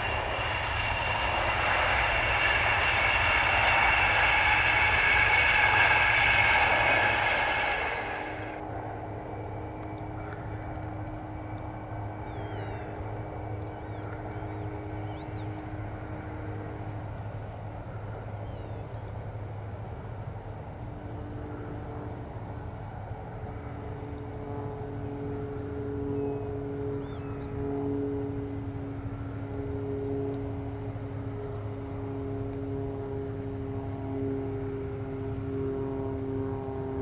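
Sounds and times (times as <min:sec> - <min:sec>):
harvester engine drone: 0:00.0 - 0:37.0.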